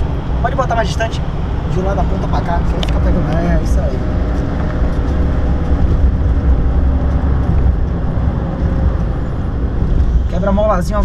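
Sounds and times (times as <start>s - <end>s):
engine drone inside cab: 0.0s - 11.0s
road rumble: 0.0s - 11.0s.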